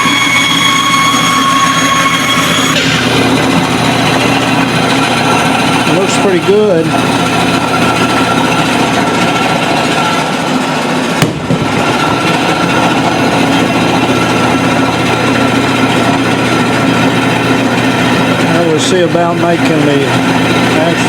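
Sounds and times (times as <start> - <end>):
bandsaw motor hum and whine: 0.0 - 21.0.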